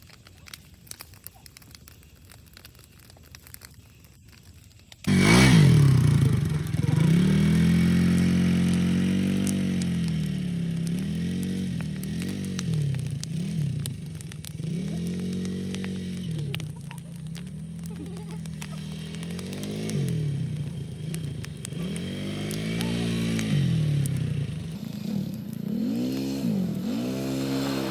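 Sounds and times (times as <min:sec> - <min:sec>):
faint crackles and ticks: 0:00.0 - 0:27.0
small petrol engine revving: 0:05.0 - 0:27.9.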